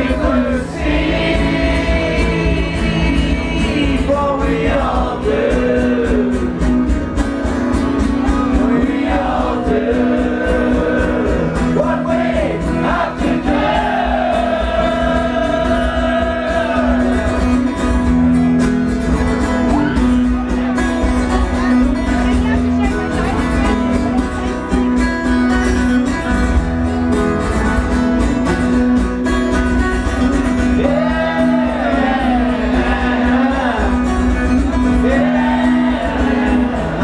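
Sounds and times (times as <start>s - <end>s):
live band music: 0.0s - 37.0s.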